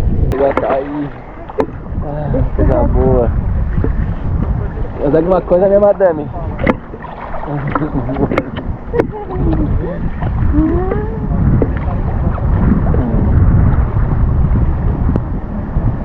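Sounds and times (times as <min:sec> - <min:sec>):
sea water sloshing: 0:00.0 - 0:16.0
wind buffeting microphone: 0:00.0 - 0:16.0.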